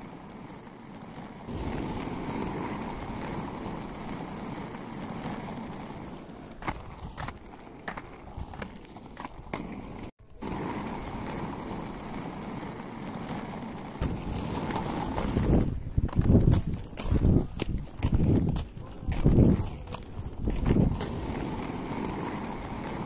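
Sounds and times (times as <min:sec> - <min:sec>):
roller skate wheels on rough road: 0:00.0 - 0:23.0.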